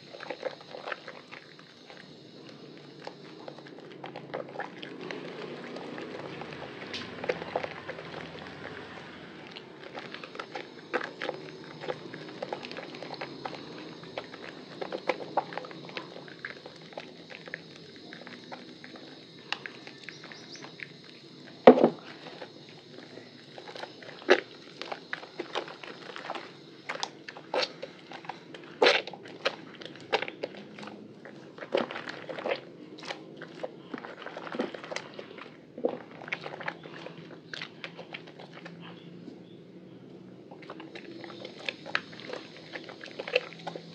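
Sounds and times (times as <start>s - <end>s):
wet soap squelching: 0.0s - 43.9s.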